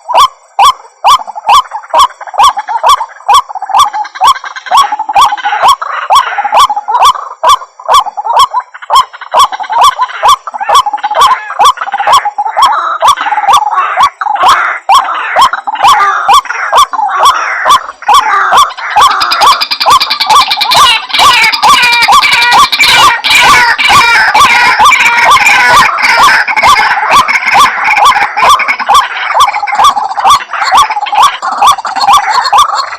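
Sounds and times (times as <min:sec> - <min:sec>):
waterhen croaking calls: 0:00.0 - 0:32.9.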